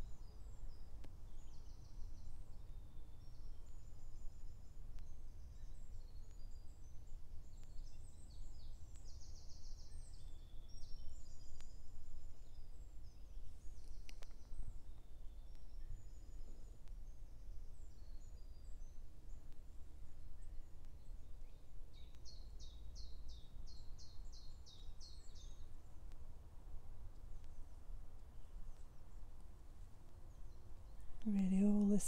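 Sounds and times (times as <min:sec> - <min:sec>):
songbirds chirping and trilling: 0:00.0 - 0:32.0.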